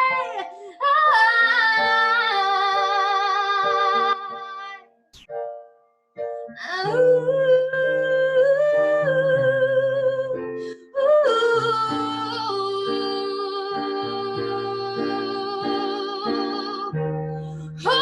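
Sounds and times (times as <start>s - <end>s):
person singing wordless melody: 0.0s - 5.4s, 6.2s - 18.0s.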